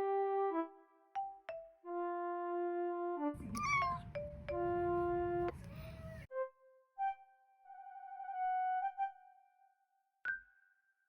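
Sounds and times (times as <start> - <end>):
background music with held notes: 0.0 - 3.4, 4.3 - 10.8.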